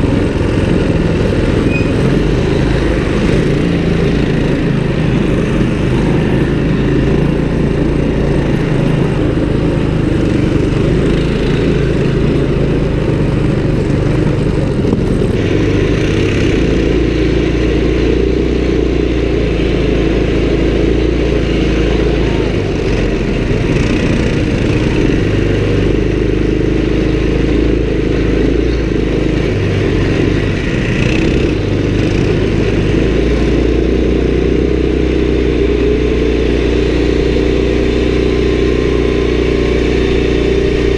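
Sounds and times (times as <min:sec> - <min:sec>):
small engines running: 0:00.0 - 0:40.9.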